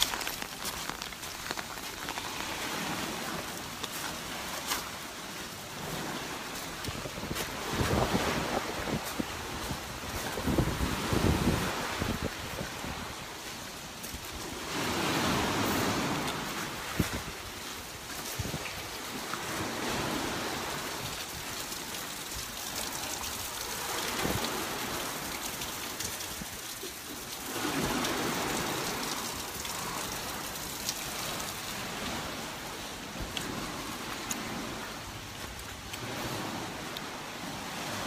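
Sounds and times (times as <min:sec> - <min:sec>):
rain falling: 0:00.0 - 0:38.0.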